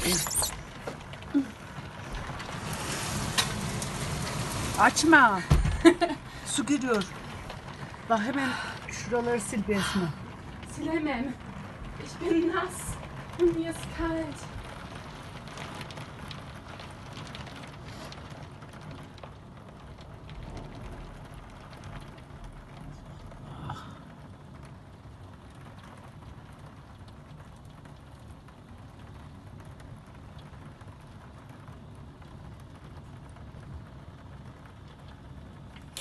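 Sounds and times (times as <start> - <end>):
heavy rain hiss: 0.0 - 36.0
raindrops tapping on glass: 0.0 - 36.0.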